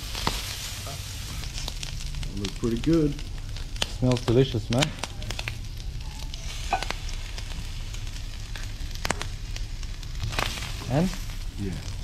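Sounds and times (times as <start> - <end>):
food sizzling on a hotplate: 0.0 - 12.0.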